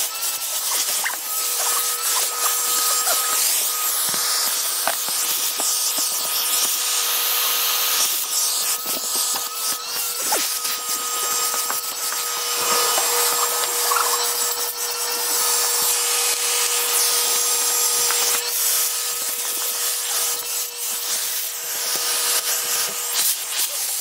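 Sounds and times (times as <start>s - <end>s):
vacuum cleaner whine: 0.0s - 24.0s.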